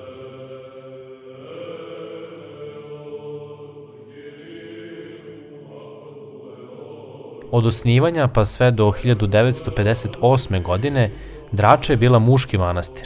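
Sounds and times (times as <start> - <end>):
slow chanting voices: 0.0 - 13.0
steady drone: 0.0 - 13.0.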